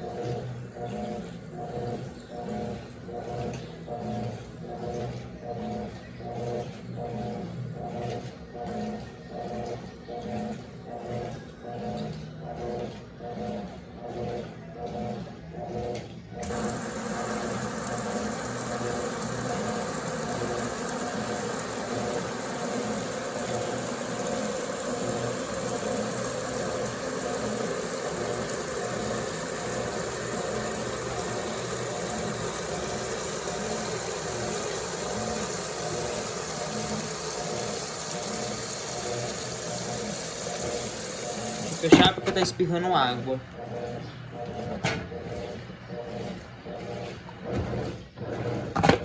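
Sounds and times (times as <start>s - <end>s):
washing machine motor humming: 0.0s - 49.0s.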